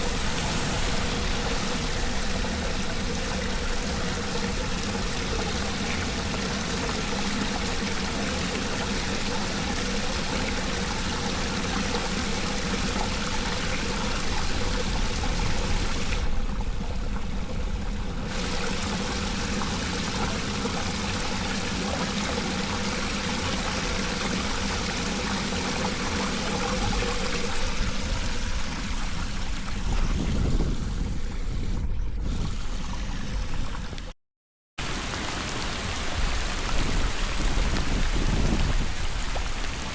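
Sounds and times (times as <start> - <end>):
floodwater pouring into drain: 0.0 - 34.0, 34.8 - 39.9.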